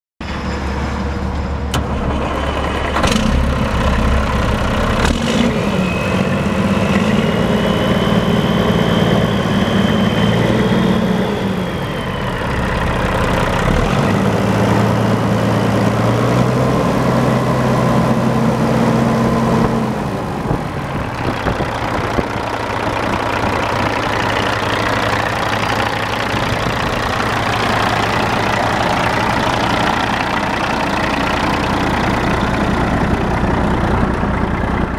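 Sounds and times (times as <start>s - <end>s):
diesel truck engine revving: 0.6s - 34.9s.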